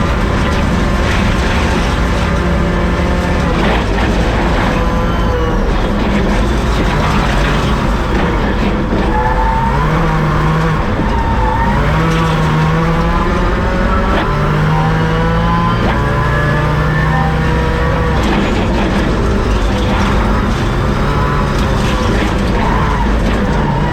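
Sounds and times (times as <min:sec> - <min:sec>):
rally car engine shifting gears: 0:00.0 - 0:23.9.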